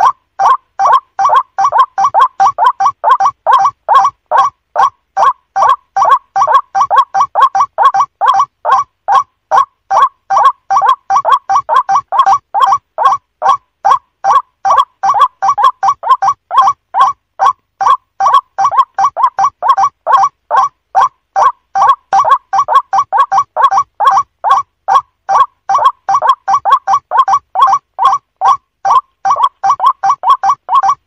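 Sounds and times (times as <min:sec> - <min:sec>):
waterhen calling: 0:00.0 - 0:31.0.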